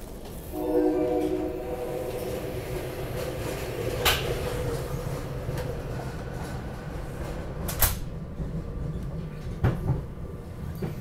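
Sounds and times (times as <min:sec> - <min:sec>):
train car low rumble: 0:00.0 - 0:11.0.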